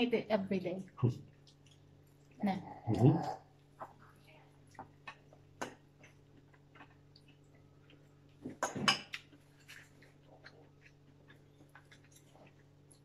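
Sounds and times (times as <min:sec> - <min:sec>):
mouth noises while eating: 0:00.8 - 0:13.0.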